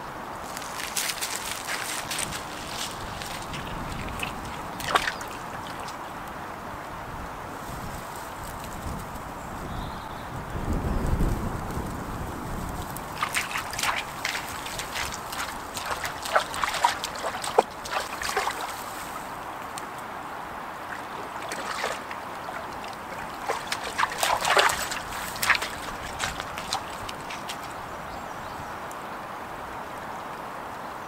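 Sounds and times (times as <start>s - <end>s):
stream trickling: 0.0s - 10.3s, 12.6s - 31.0s.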